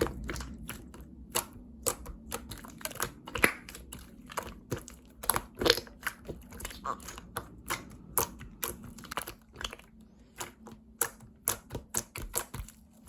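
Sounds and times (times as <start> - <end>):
slime clicking and popping: 0.0 - 12.9.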